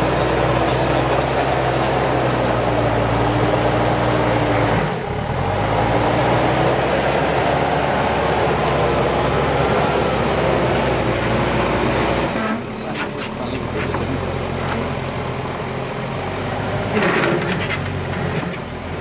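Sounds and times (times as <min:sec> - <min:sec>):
diesel engine under load: 0:00.0 - 0:19.0.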